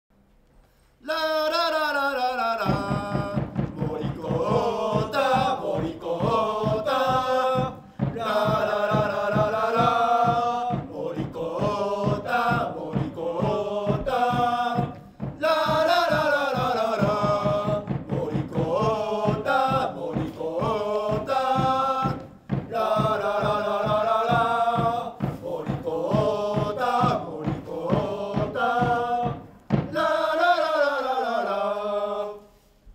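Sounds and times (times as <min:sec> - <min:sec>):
football crowd chanting: 0:01.1 - 0:32.4
steady drumbeat: 0:02.6 - 0:31.0.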